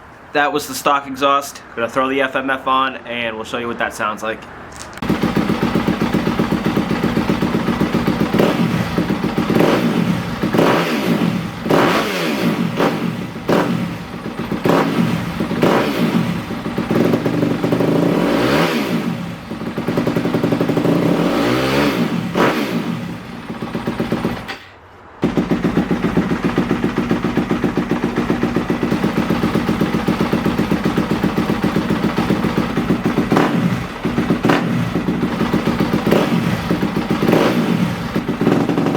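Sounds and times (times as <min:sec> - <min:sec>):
motorcycle engine idling: 0:05.0 - 0:24.6, 0:25.2 - 0:38.9
motorcycle engine revving: 0:05.0 - 0:24.6, 0:25.2 - 0:38.9.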